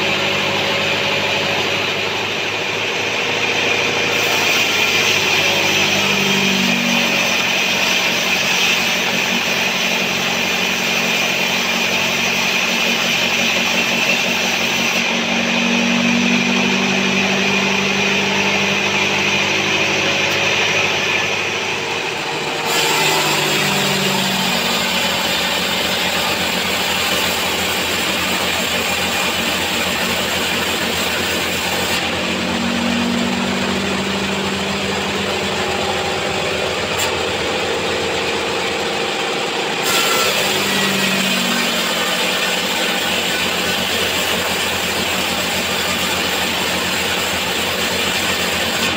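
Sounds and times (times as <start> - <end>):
band sawmill cutting log: 0.0 - 48.9.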